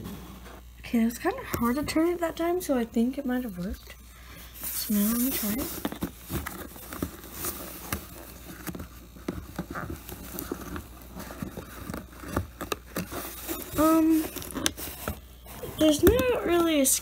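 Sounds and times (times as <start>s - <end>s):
rustling and scraping in box: 0.0s - 2.4s, 4.4s - 17.0s.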